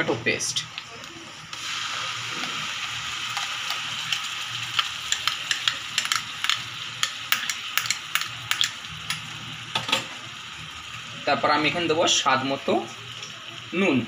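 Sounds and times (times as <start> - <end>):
paste sizzling in hot oil: 1.4 - 14.0.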